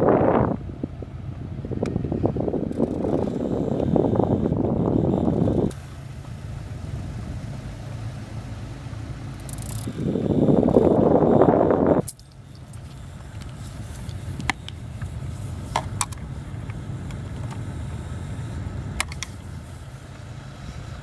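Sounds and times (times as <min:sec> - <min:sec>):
car engine idling: 0:00.0 - 0:21.0
rush of air in car: 0:00.0 - 0:21.0.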